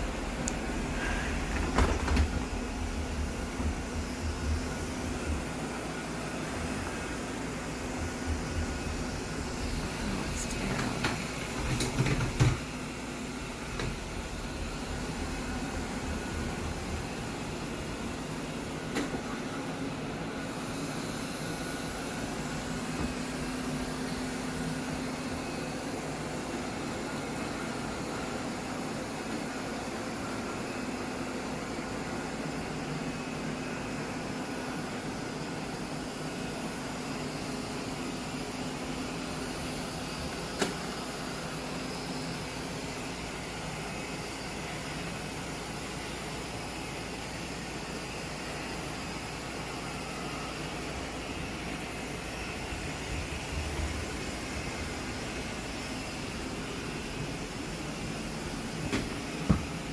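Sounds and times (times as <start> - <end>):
robot vacuum humming: 0.0 - 33.0, 33.7 - 59.9.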